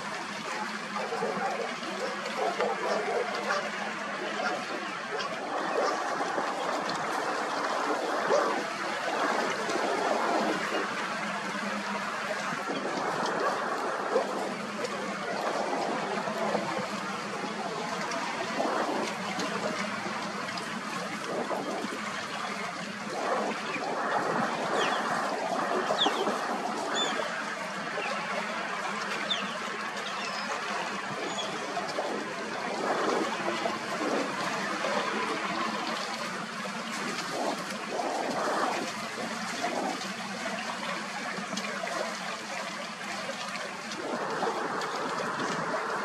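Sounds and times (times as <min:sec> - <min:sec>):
rushing trickling water: 0:00.0 - 0:46.0.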